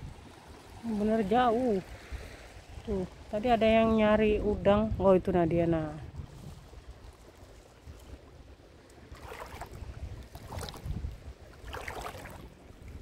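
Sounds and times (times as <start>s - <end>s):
wading splashes in shallow water: 0.0s - 5.2s, 5.8s - 13.0s
wind rumble on microphone: 0.0s - 13.0s.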